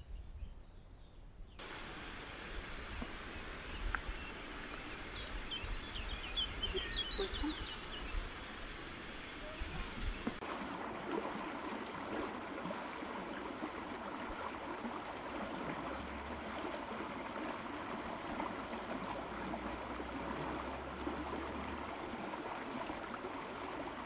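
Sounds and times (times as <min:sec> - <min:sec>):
running water: 0:01.6 - 0:24.0.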